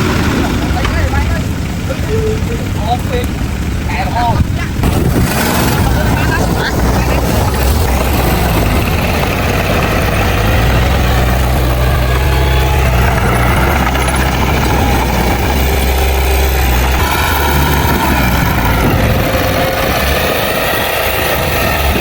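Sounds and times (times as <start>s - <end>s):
heavy diesel engine humming: 0.0s - 22.0s.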